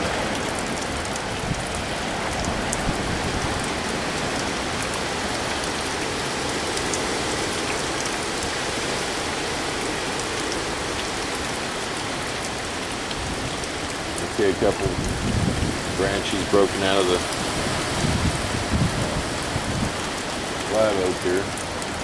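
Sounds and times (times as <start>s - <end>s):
wind rumble on microphone: 0.0s - 10.0s, 13.0s - 22.0s
heavy rain hissing: 0.0s - 22.0s
raindrops ticking: 0.0s - 22.0s.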